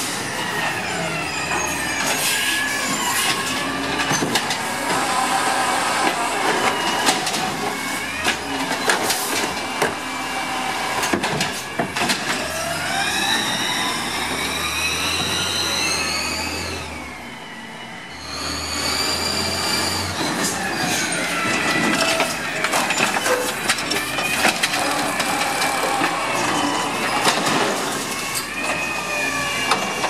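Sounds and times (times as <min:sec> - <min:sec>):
hydraulic whine: 0:00.0 - 0:30.0
truck pulling away whining: 0:00.0 - 0:30.0.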